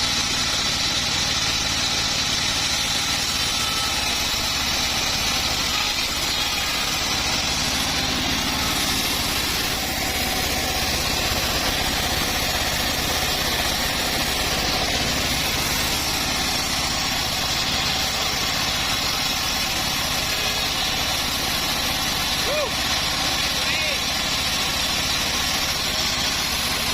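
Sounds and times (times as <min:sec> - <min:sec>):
sawmill engine running: 0:00.0 - 0:26.9.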